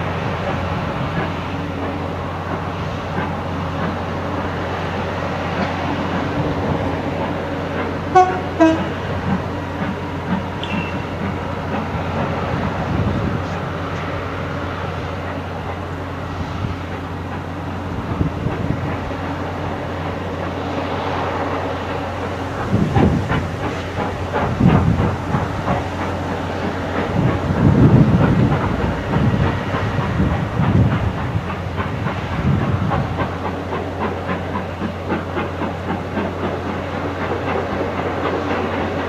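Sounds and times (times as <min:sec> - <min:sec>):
steam locomotive exhaust beats: 0:00.0 - 0:39.0.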